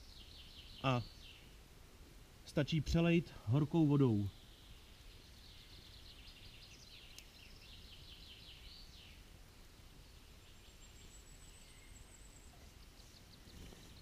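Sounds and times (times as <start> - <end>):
songbird singing: 0.0 - 1.8, 2.4 - 14.0.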